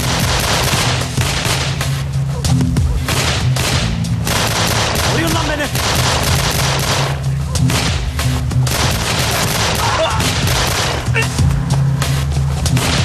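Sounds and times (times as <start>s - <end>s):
rapid gunshots: 0.0s - 11.5s, 12.6s - 13.0s
steady low drone: 0.0s - 13.0s.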